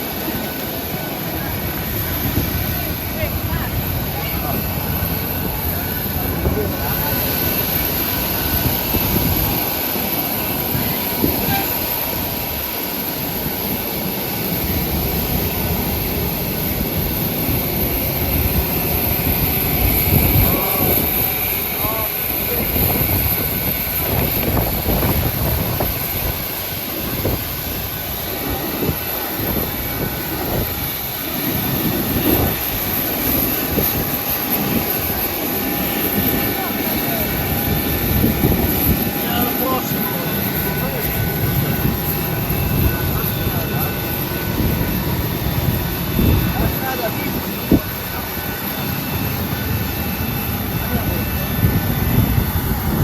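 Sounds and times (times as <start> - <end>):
airplane engine drone and whine: 0.0 - 53.0.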